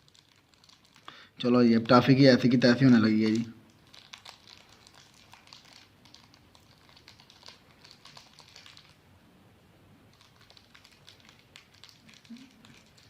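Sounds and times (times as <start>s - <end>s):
wrapper crinkling: 0.0s - 9.0s, 10.1s - 13.0s.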